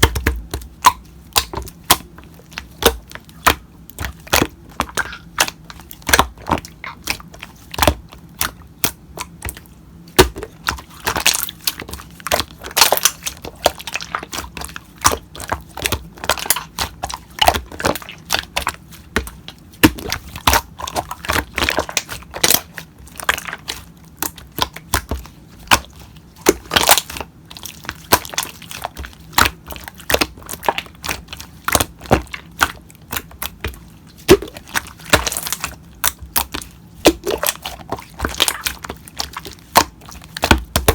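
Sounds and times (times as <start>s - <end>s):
slime clicking and popping: 0.0s - 9.6s, 10.2s - 40.9s.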